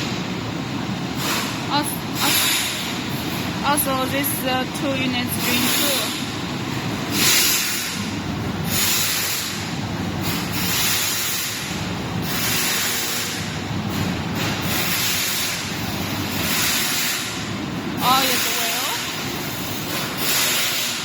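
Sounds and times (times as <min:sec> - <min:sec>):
dehumidifiers running with hiss: 0:00.0 - 0:21.0.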